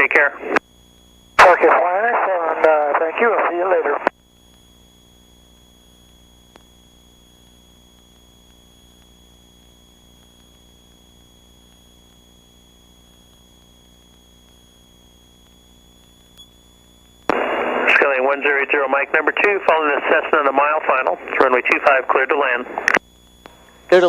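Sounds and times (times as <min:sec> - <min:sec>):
intercom hum and hiss: 0:00.0 - 0:24.0.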